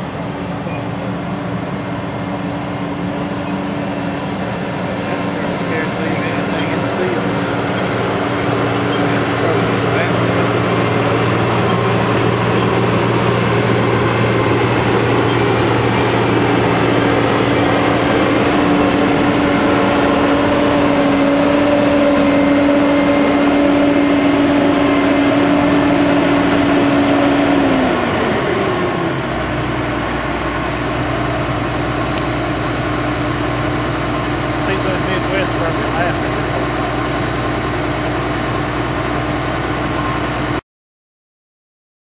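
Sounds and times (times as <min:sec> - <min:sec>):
diesel engine running: 0:00.0 - 0:40.6.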